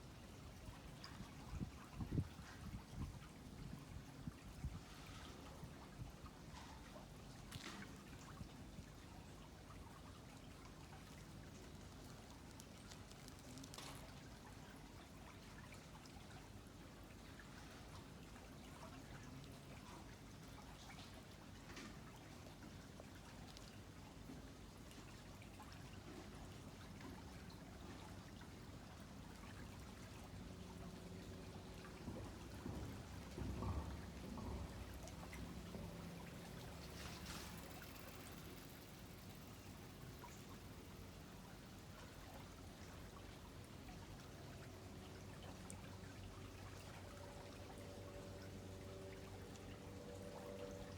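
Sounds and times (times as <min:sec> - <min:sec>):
river water trickling and lapping: 0:00.0 - 0:50.9.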